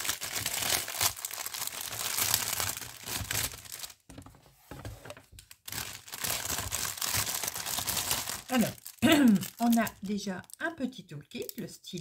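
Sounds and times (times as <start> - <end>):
plastic package crinkling: 0.0 - 4.2, 5.2 - 10.7.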